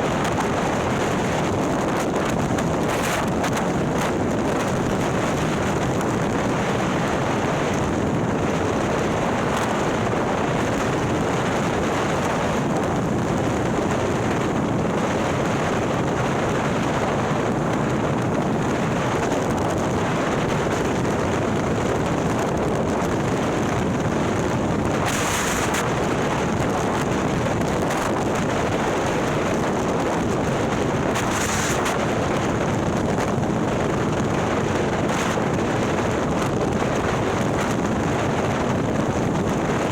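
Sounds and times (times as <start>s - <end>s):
wind rush over microphone: 0.0s - 39.9s.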